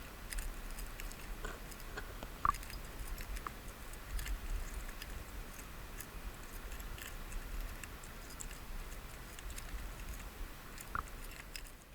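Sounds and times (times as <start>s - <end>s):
low steady rumble: 0.0s - 11.9s
light clicks and ticks: 0.2s - 11.9s.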